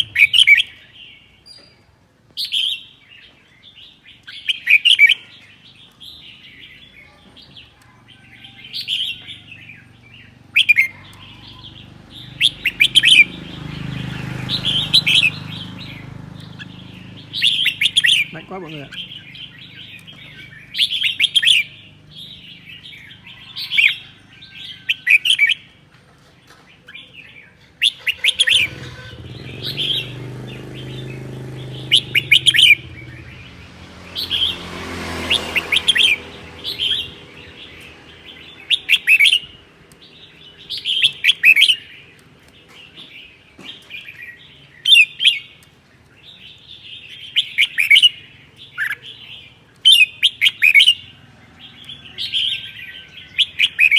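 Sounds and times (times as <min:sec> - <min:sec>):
bird singing bright phrases: 0:00.0 - 0:53.9.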